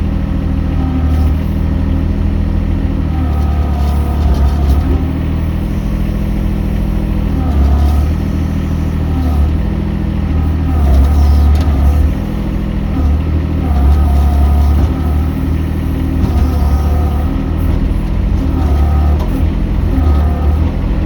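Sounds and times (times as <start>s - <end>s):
mini excavator engine running: 0.0s - 21.0s.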